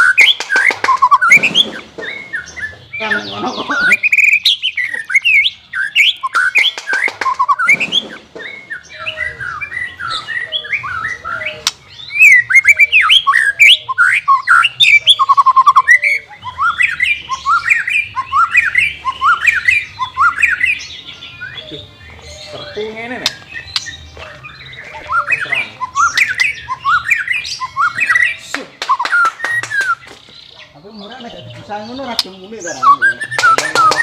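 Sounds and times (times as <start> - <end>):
bird singing whistles and chirps: 0.0 - 34.0.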